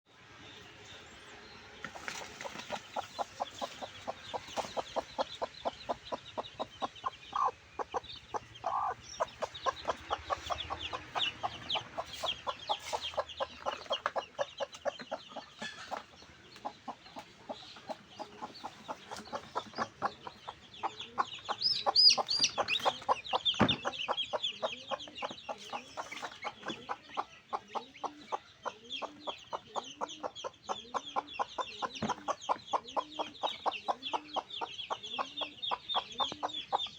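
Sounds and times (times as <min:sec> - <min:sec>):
chickens clucking and calling: 0:00.2 - 0:36.9.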